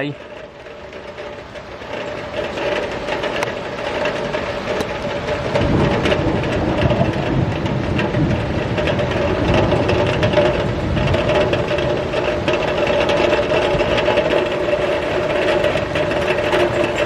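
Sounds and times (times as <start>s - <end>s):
heavy rain pattering: 0.0s - 17.0s
thunder rumbling: 1.1s - 17.0s.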